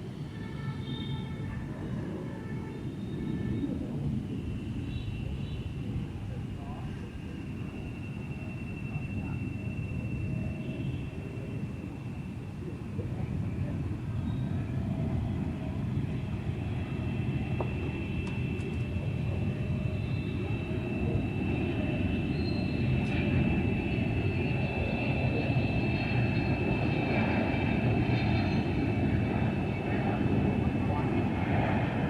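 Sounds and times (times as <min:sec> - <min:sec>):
jet engines rumbling and whining: 0:00.0 - 0:32.0.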